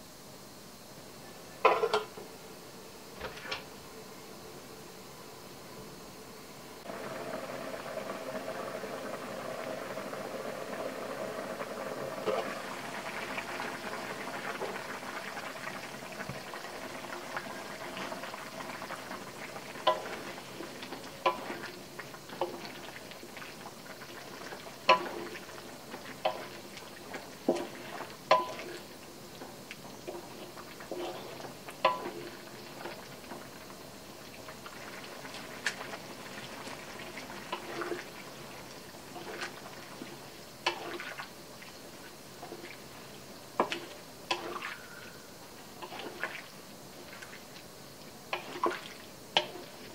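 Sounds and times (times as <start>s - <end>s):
sauce bubbling at a simmer: 6.8s - 49.9s.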